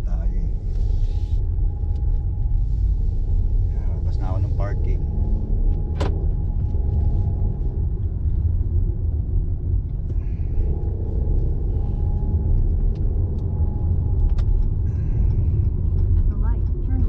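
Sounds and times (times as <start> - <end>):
car road rumble: 0.0 - 17.0.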